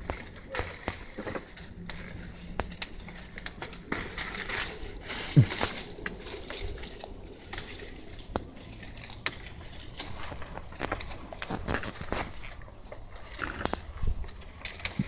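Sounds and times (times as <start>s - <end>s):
plants rustling: 0.0s - 15.0s.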